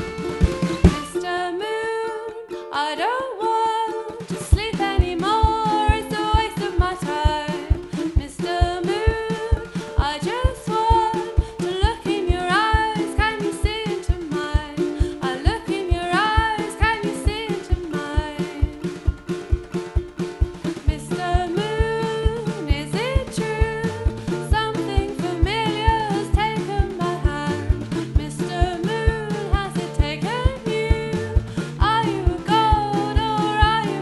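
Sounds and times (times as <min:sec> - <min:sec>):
song with singing and beat: 0:04.0 - 0:34.0.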